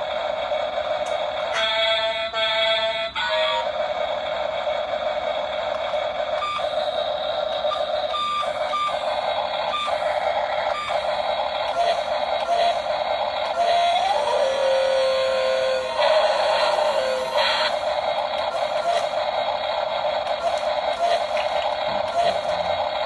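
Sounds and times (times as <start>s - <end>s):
toy excavator motors whirring: 0.0s - 23.0s.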